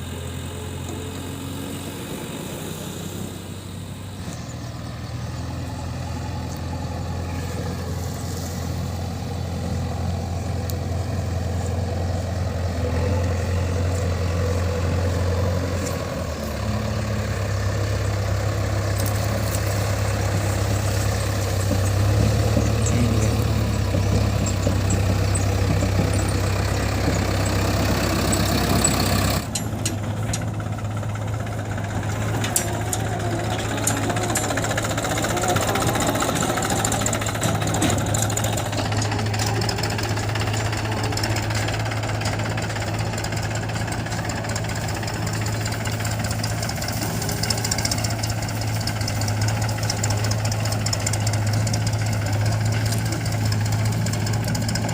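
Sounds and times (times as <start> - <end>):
diesel engines humming: 0.0 - 54.9.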